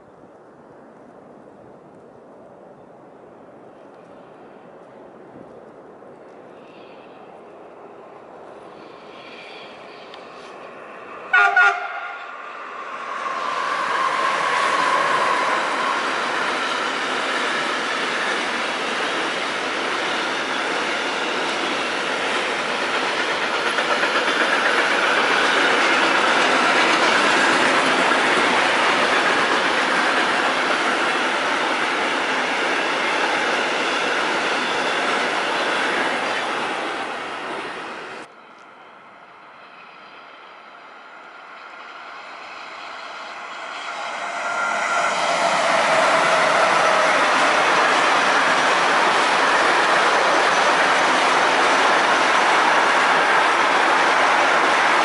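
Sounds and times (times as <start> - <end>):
distant freight train approaching: 0.0 - 55.0.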